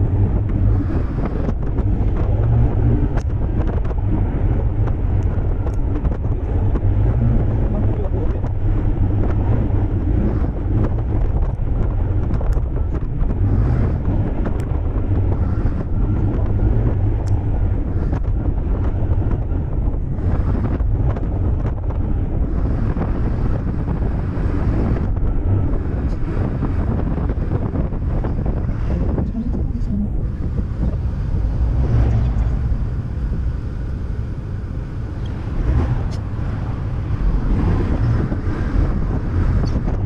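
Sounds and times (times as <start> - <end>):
road noise: 0.0 - 40.0
wind rumble on microphone: 0.0 - 40.0.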